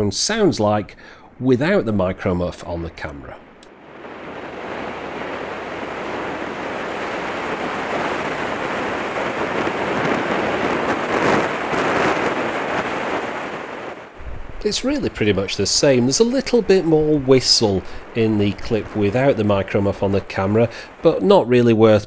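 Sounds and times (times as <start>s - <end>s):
wind buffeting microphone: 3.7s - 21.4s.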